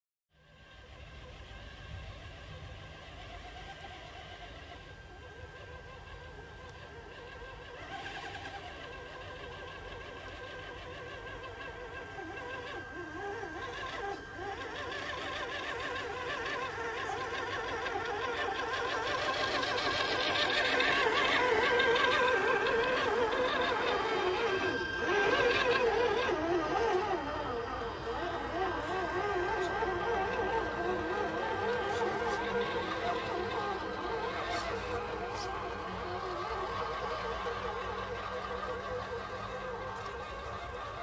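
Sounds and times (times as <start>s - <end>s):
electric motors whining: 0.4s - 41.0s.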